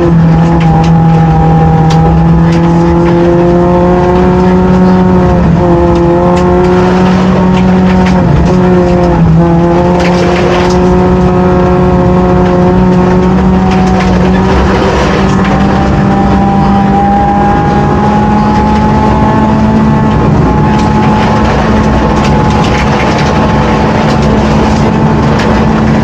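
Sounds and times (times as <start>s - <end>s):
car engine running hard: 0.0s - 26.0s
gravel rattling against car: 0.0s - 26.0s.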